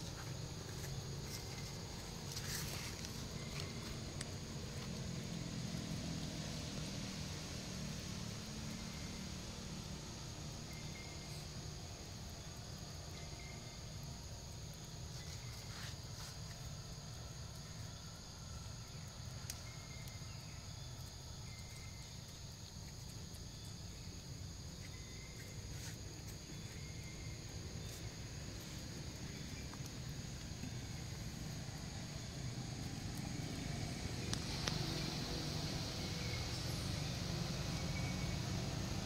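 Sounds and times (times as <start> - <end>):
high drone of insects: 0.0 - 39.0.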